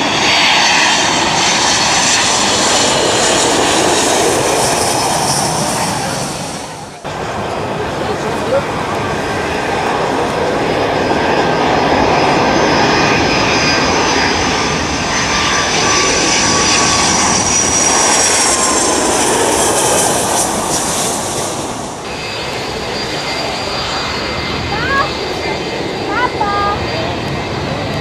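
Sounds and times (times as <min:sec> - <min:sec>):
high engine whine: 0:00.0 - 0:28.0
jet engines rushing: 0:00.0 - 0:28.0.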